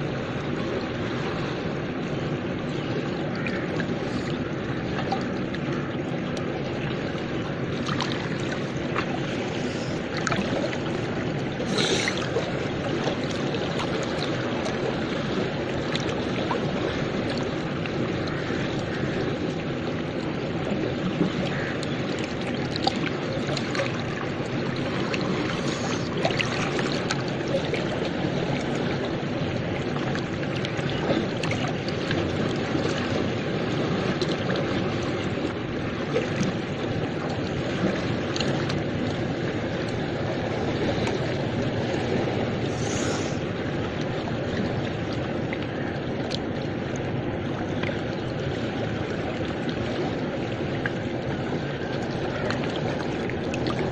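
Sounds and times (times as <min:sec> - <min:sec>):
river water rushing: 0:00.0 - 0:53.9
water splashing and lapping: 0:00.0 - 0:53.9.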